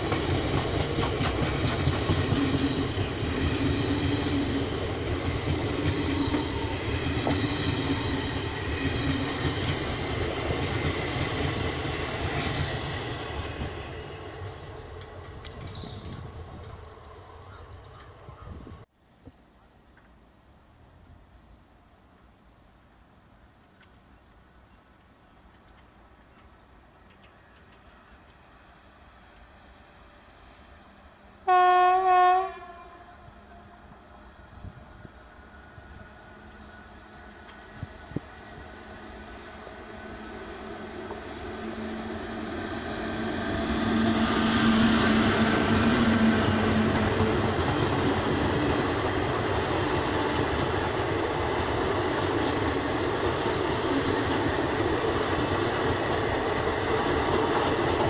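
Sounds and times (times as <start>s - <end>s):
electric locomotive humming: 0.0s - 18.8s, 26.3s - 58.0s
train coaches rumbling on rails: 0.0s - 18.9s, 25.5s - 58.0s
insects chirring: 0.0s - 58.0s.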